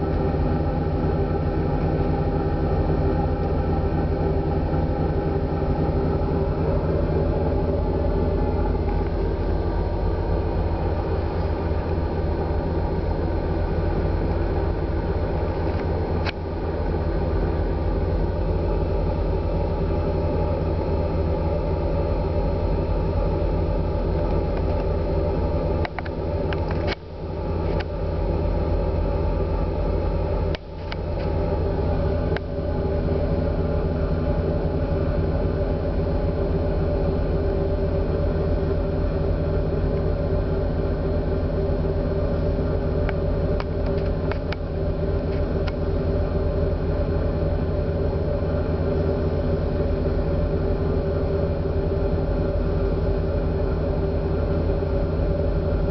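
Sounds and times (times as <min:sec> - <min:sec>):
ship engines droning: 0:00.0 - 0:55.9.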